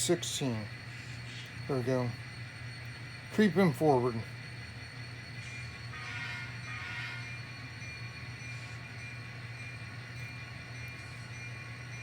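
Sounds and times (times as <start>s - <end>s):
model locomotive engine drone: 0.0s - 12.0s.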